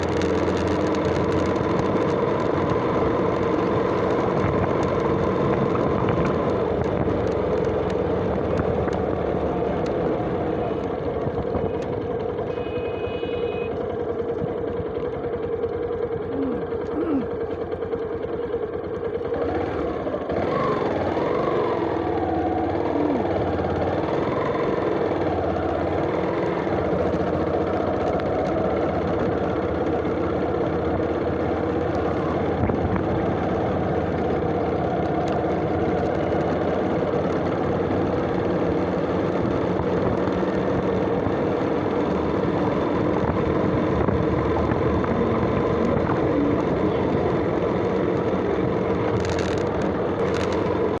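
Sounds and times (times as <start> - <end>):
motorcycle cruising: 0.0 - 51.0.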